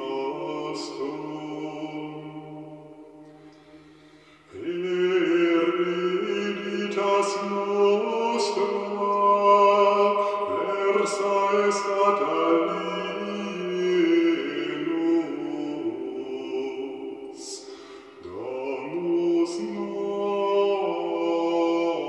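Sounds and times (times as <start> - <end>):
voices singing a slow chant: 0.0 - 22.0.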